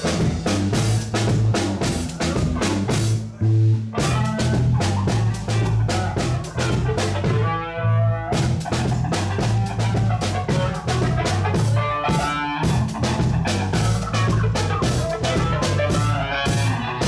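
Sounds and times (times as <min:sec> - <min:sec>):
drum kit beat: 0:00.0 - 0:17.0
live funk band: 0:00.0 - 0:17.0.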